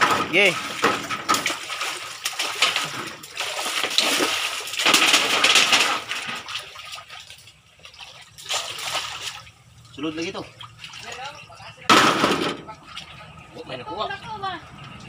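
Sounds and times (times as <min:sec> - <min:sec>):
water splashing in fish tank: 0:00.0 - 0:13.8.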